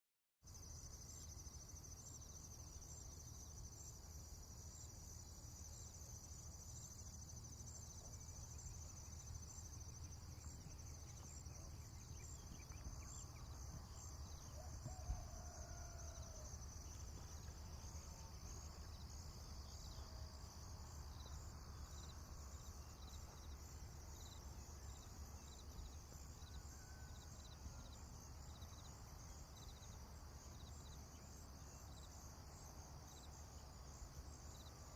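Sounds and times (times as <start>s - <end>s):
crickets chirring: 0.5s - 34.9s.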